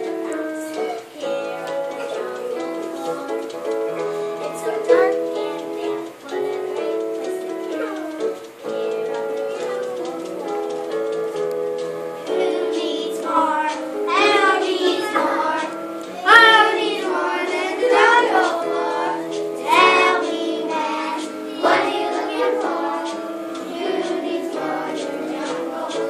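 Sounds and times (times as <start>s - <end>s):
girl singing: 0.0s - 26.0s
musical accompaniment of held notes: 0.0s - 26.0s.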